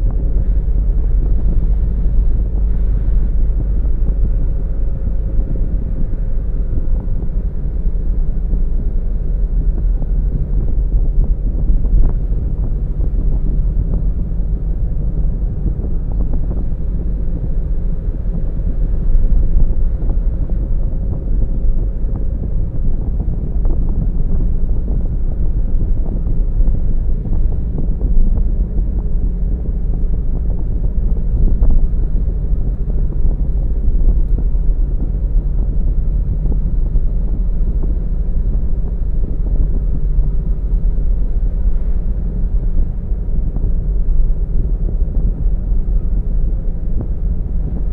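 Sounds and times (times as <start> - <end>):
car engine and tyre rumble: 0.0 - 47.9
wind buffeting: 0.0 - 47.9.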